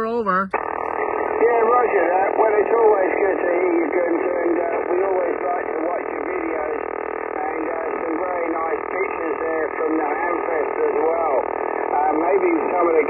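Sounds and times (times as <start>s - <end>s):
radar noise interference: 0.0s - 13.0s
radio band noise: 0.0s - 13.0s.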